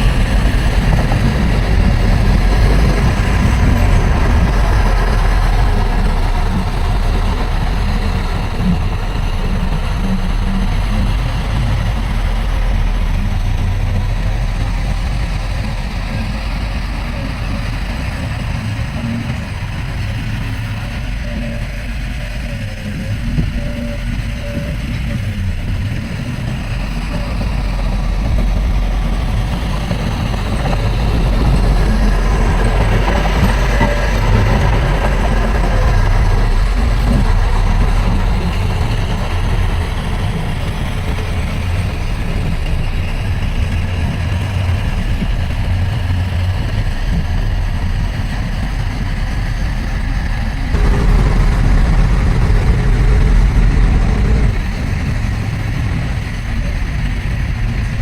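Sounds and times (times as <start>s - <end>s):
heavy diesel engine rumbling: 0.0s - 58.0s.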